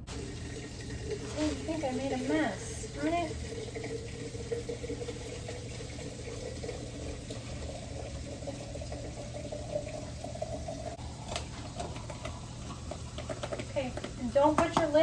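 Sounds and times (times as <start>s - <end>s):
tap running into sink: 0.0s - 15.0s.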